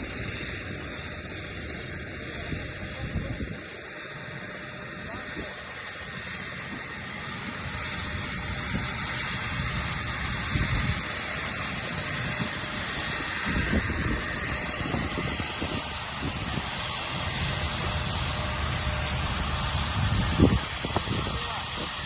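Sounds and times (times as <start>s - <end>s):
wind buffeting microphone: 0.0s - 3.8s, 6.6s - 22.0s
helicopter hiss and whine: 0.0s - 22.0s.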